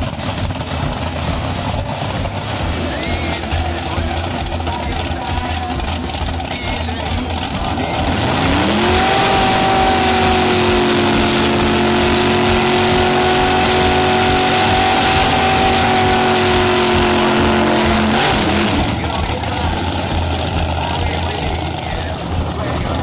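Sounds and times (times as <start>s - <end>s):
engine revving during burnout: 0.0s - 23.0s.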